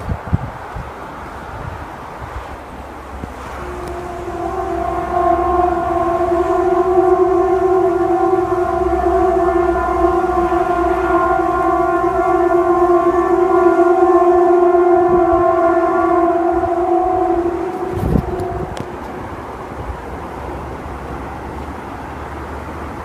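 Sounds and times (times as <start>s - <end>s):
horn-like droning tone: 2.6s - 23.0s.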